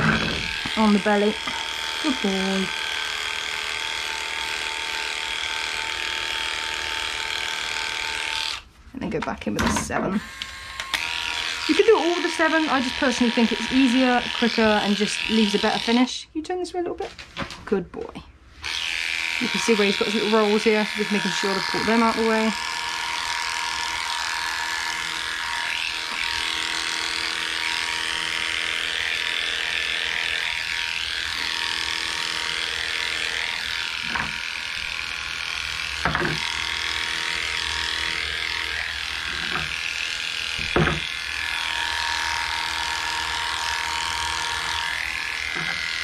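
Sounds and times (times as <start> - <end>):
electric dog clipper humming: 0.0 - 8.7, 9.6 - 16.2, 18.6 - 46.0.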